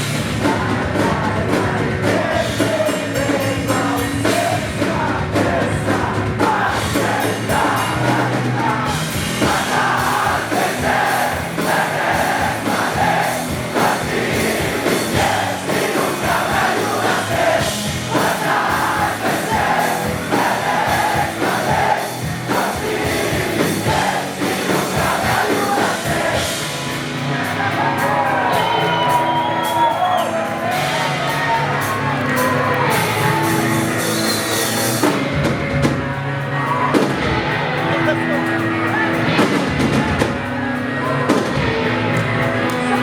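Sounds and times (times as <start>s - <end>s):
live band with sung vocals: 0.0s - 43.0s.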